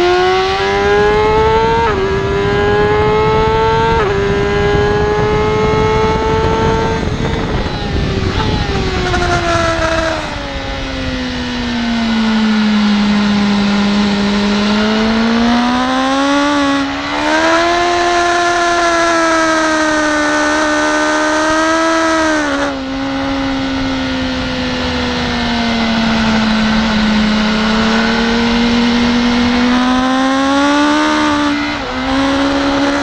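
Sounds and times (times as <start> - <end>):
motorcycle engine accelerating: 0.0 - 33.0
wind noise: 0.0 - 33.0.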